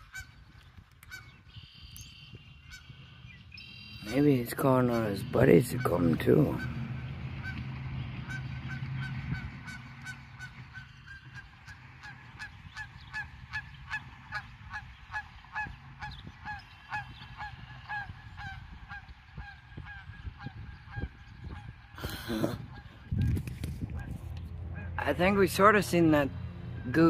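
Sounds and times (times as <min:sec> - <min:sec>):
goose honking in flight: 0:00.0 - 0:00.4, 0:01.1 - 0:25.6
low steady rumble: 0:00.0 - 0:27.0.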